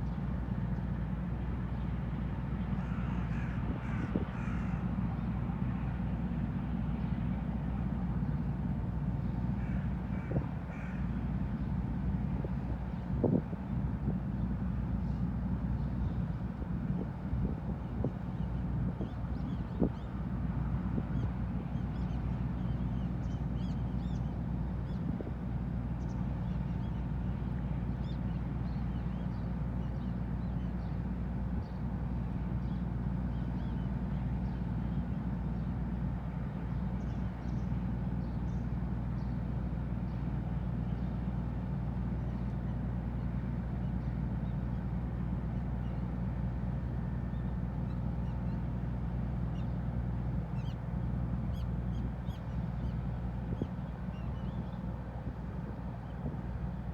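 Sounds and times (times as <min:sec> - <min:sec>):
ship engines droning: 0:00.1 - 0:56.9.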